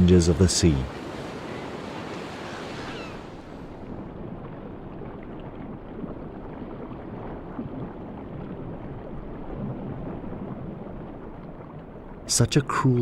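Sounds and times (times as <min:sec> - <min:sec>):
sea water sloshing: 0:00.0 - 0:13.0.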